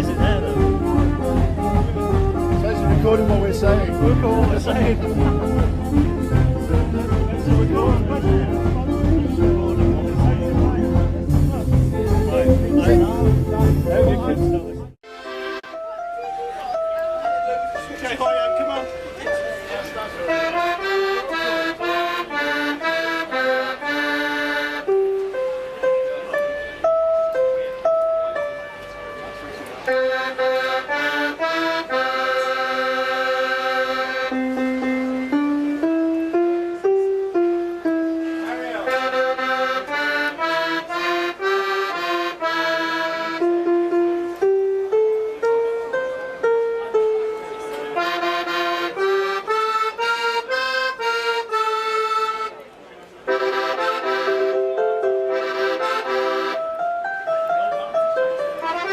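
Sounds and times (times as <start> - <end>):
fairground organ playing a tune: 0.0 - 58.9.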